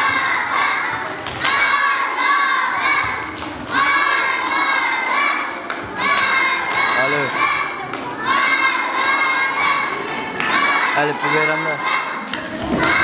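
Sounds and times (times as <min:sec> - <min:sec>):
children shouting in unison: 0:00.0 - 0:13.0.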